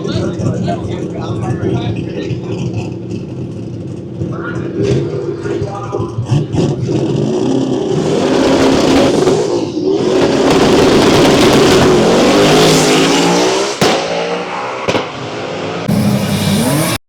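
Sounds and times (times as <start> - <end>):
drag car engine at full throttle: 0.0 - 17.0.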